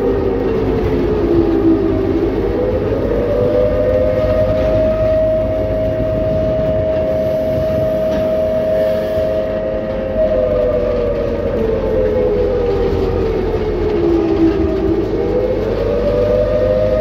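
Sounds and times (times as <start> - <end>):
train horn blast: 0.0 - 15.2
train rumbling: 0.0 - 17.0.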